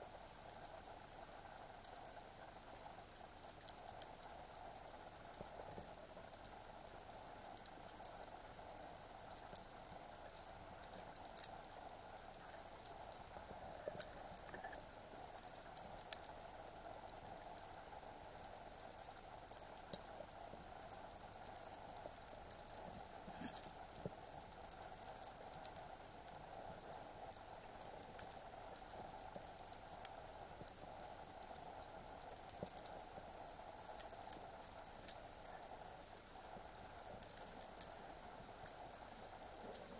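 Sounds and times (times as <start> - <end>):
faint clicks and crackles: 0.0 - 39.9.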